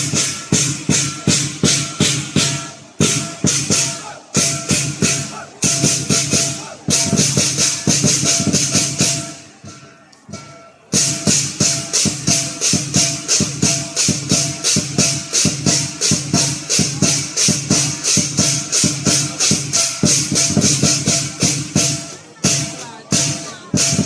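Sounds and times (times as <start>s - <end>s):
drum and clashing cymbals: 0.0s - 24.0s.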